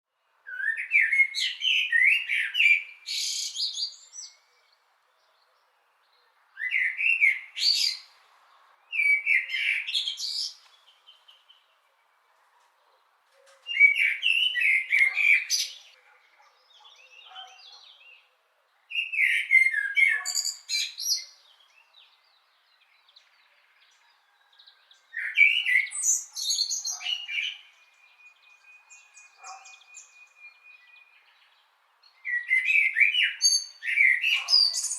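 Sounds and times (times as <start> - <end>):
blackbird singing: 0.4 - 34.9.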